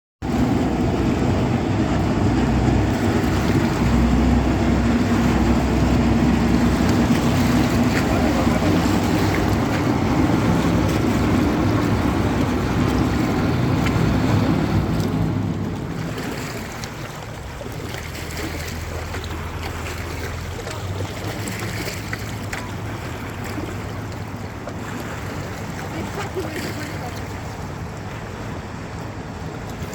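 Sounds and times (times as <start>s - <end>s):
boat engine running: 0.2s - 29.9s
water and wind rushing: 0.2s - 29.9s.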